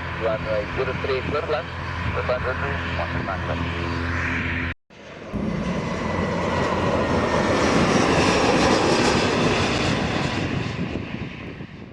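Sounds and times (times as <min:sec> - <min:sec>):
jet airliner passing: 0:00.0 - 0:11.9.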